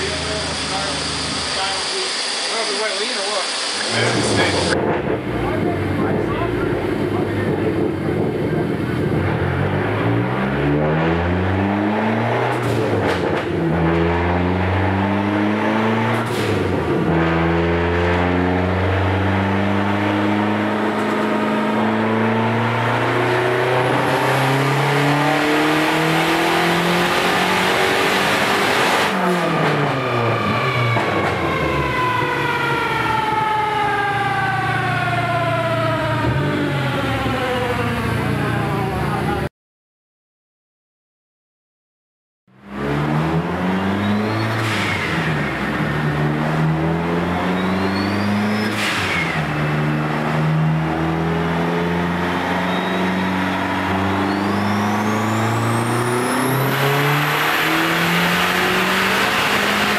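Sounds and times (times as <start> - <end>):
turbocharged engine revving: 0.0 - 39.4, 42.5 - 59.9
drivetrain winding down whine: 0.0 - 39.5, 42.6 - 59.9.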